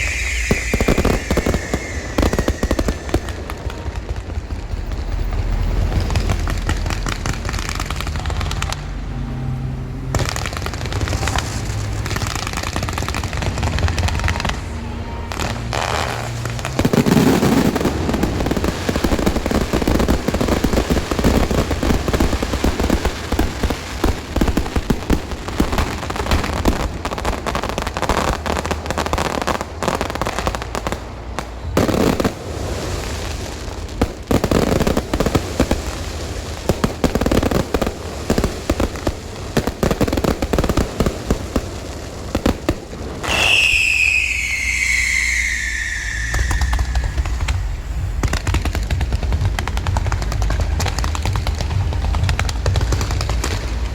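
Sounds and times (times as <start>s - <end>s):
fireworks crackling bangs: 0.0s - 53.9s.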